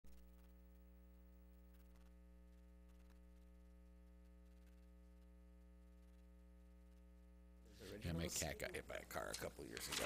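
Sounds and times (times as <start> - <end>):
faint mains hum: 0.1 - 10.0.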